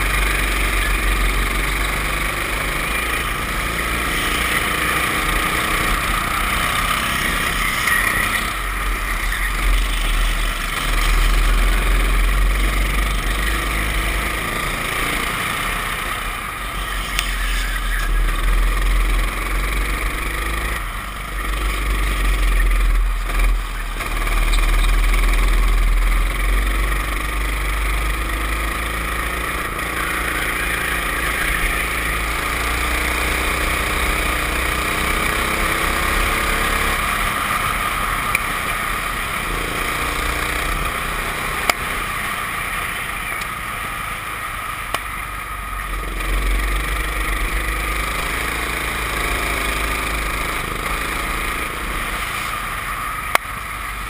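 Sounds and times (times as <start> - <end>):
go-kart engines racing: 0.0 - 54.0.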